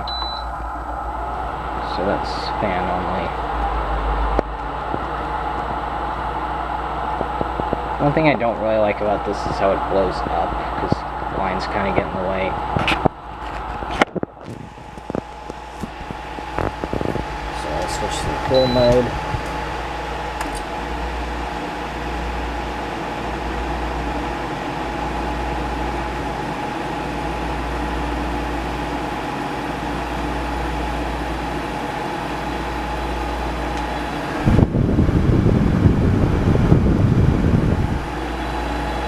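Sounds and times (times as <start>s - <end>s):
air conditioner fan rush and hum: 0.0s - 39.0s
faint steady whine: 0.0s - 39.0s.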